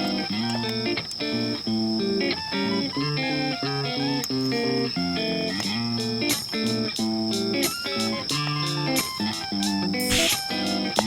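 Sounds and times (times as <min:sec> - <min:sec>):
plucked guitar notes: 0:00.0 - 0:11.0.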